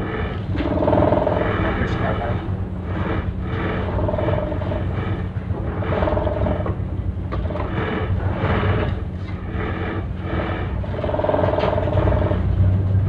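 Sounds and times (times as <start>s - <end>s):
ship engine humming: 0.0s - 13.0s.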